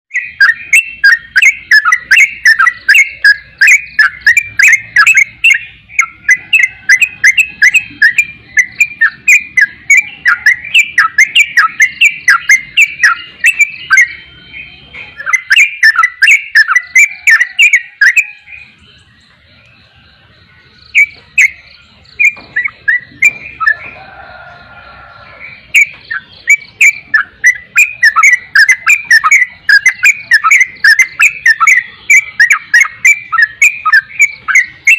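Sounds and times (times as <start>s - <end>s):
bulbul sharp repeated chirps: 0.1s - 19.9s, 20.6s - 24.0s, 25.5s - 34.9s.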